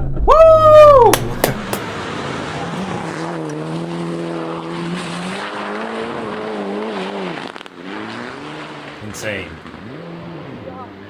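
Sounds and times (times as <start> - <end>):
rally car engine running hard: 0.9 - 11.0
road and tyre noise: 0.9 - 11.0.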